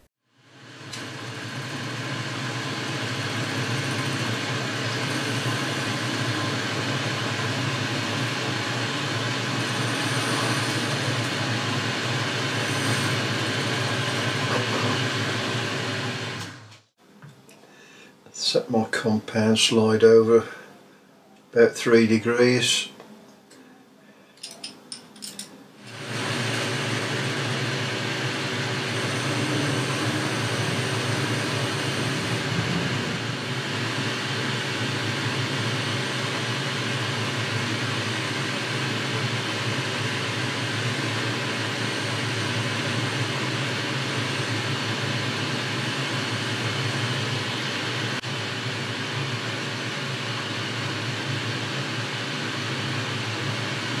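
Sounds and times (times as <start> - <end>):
lathe machine hum: 0.0 - 16.8, 25.8 - 54.0.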